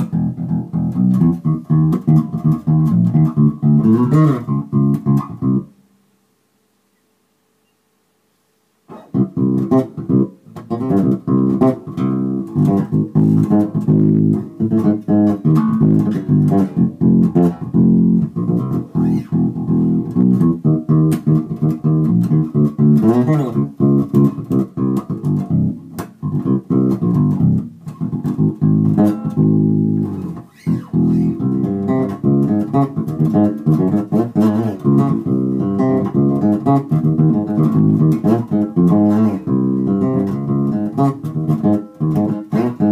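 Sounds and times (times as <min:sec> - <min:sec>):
electric bass played fingerstyle: 0:00.0 - 0:05.8, 0:08.9 - 0:42.9.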